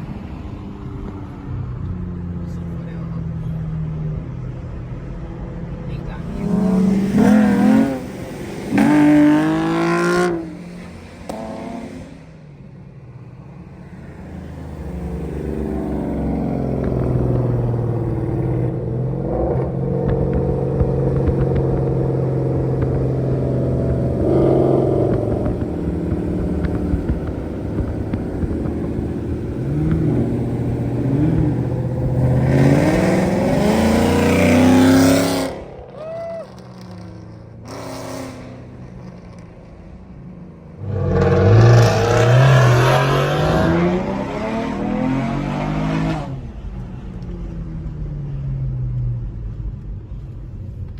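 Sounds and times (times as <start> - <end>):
car engine accelerating: 1.7 - 12.6, 13.5 - 50.9.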